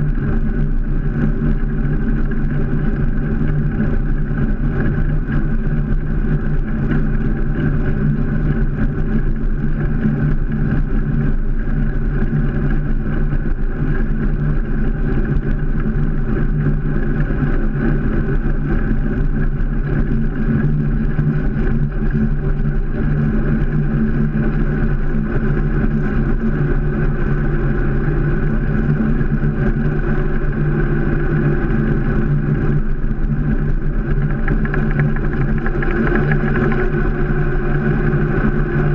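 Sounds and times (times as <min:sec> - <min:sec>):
bike tyre rumble on asphalt: 0:00.0 - 0:38.9.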